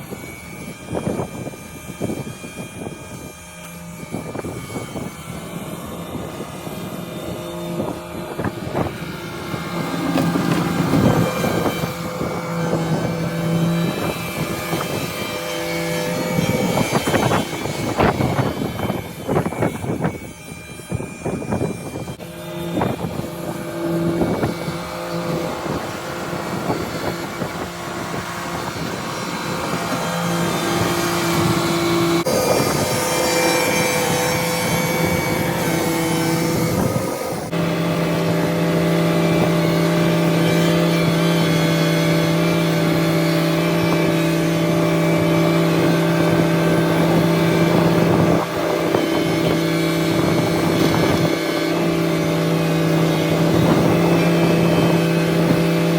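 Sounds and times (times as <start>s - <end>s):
tractor engine running: 2.9s - 20.1s, 22.1s - 55.9s.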